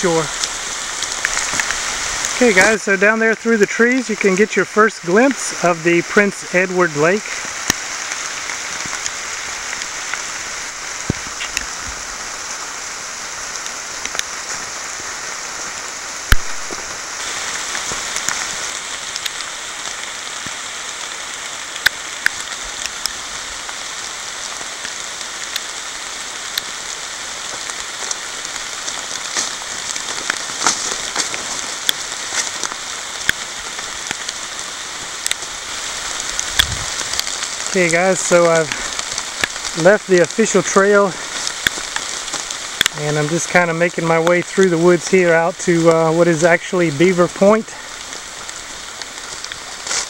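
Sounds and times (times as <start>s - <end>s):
rain falling on leaves: 0.0s - 50.0s.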